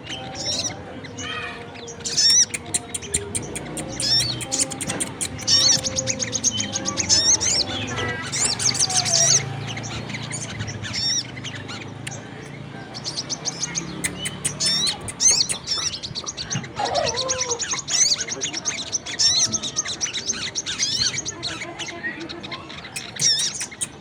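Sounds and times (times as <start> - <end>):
bird chirps and trills: 0.0 - 24.0.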